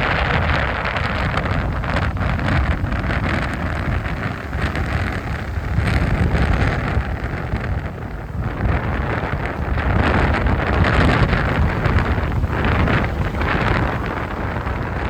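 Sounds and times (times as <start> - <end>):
sea waves breaking on beach: 0.0 - 15.0
wind buffeting microphone: 0.0 - 15.0.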